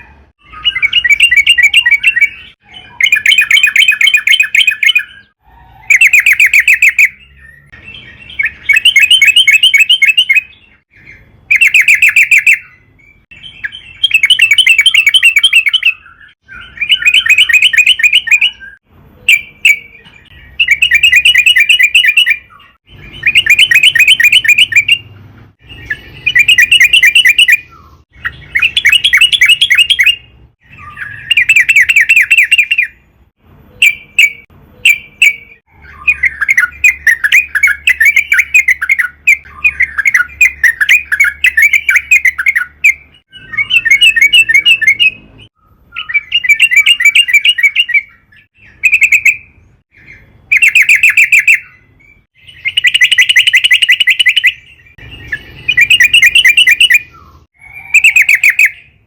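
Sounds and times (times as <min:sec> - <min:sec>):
bird singing rapid chattering phrases: 0:00.0 - 0:59.0.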